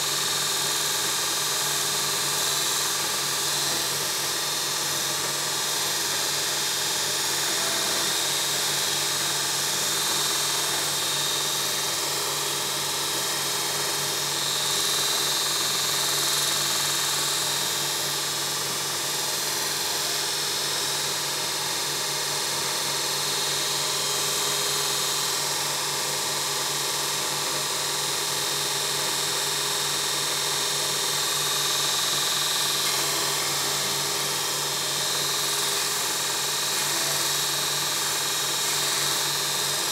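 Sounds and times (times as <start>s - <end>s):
belt grinder motor humming: 0.0s - 39.9s.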